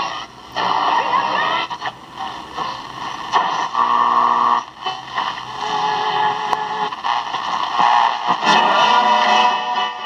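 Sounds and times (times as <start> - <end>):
radio static hiss: 0.0 - 10.0
steady hum-like tone: 0.0 - 10.0.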